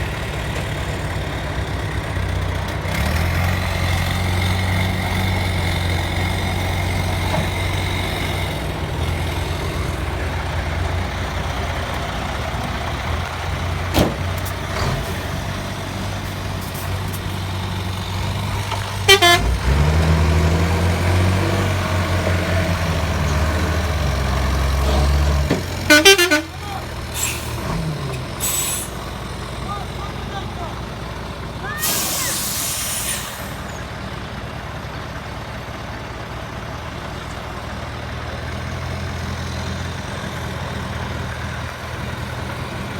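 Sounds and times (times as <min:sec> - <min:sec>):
heavy truck engine running: 0:00.0 - 0:42.9.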